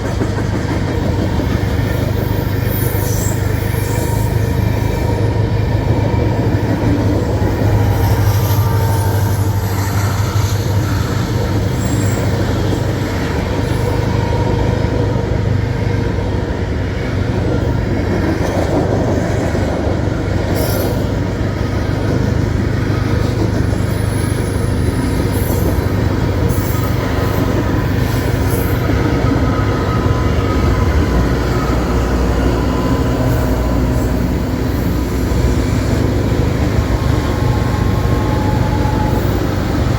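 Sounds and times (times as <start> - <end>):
train wheels rumbling on rail: 0.0 - 39.9
high wheel squeals: 1.4 - 15.6, 20.4 - 39.9.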